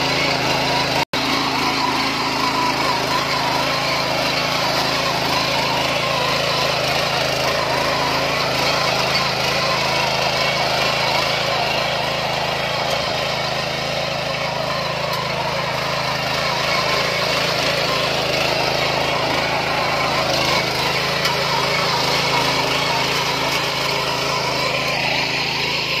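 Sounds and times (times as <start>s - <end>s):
power weeder engine churning soil: 0.0s - 26.0s.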